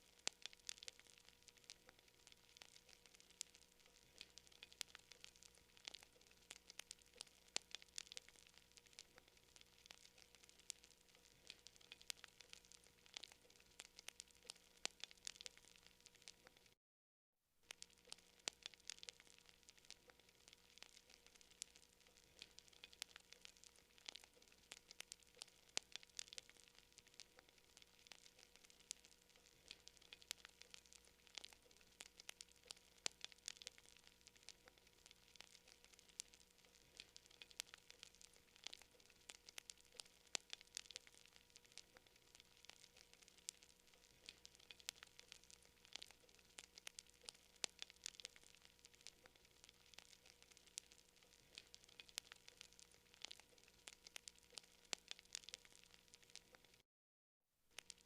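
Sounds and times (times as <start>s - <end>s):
campfire crackling: 0.0s - 16.8s, 17.6s - 56.8s, 57.7s - 58.0s
faint steady hum: 0.0s - 16.8s, 17.6s - 56.8s, 57.7s - 58.0s.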